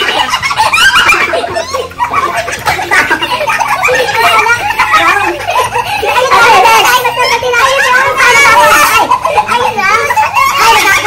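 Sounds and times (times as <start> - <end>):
group of people laughing: 0.0 - 11.0
people exclaiming: 0.0 - 11.0.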